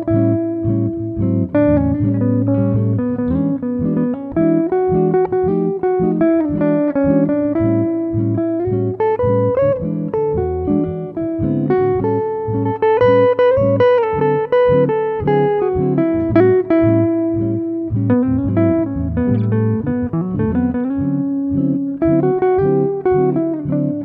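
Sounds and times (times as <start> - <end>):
plucked melody background music: 0.0 - 24.0.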